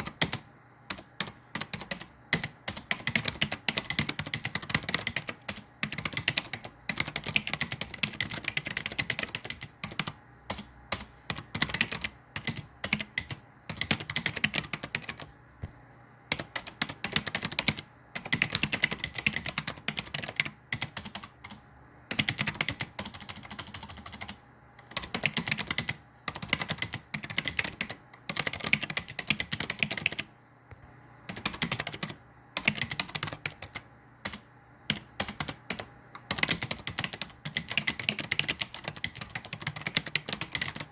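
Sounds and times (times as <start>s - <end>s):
computer keyboard typing: 0.0s - 15.4s, 16.3s - 30.3s, 31.3s - 40.9s.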